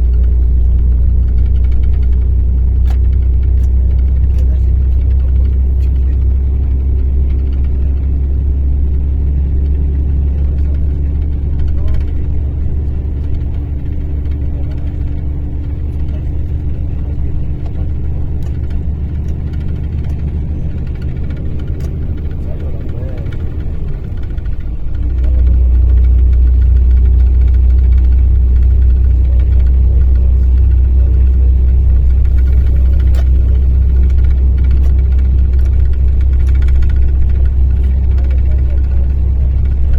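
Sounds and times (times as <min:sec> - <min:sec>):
diesel bus engine humming: 0:00.0 - 0:39.9.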